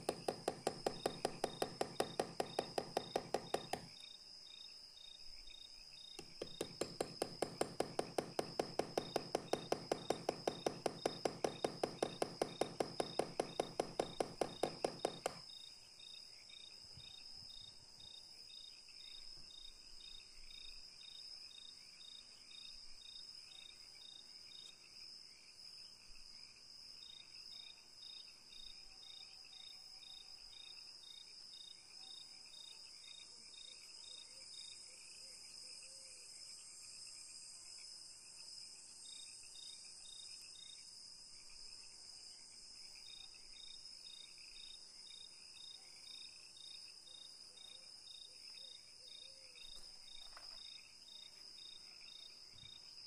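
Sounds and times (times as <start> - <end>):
cricket chirping: 0.0 - 53.0.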